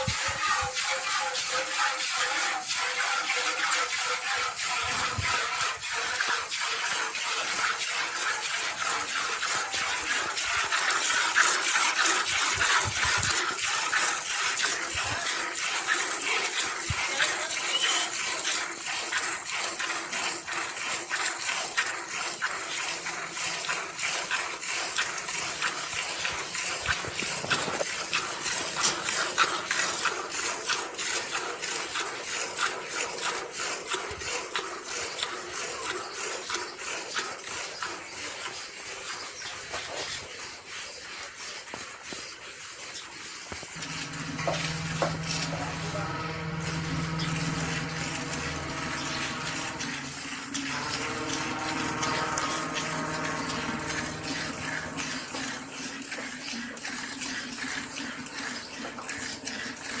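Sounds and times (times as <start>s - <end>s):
milk squirting into a pail: 0.0s - 60.0s
rush of liquid: 0.0s - 60.0s.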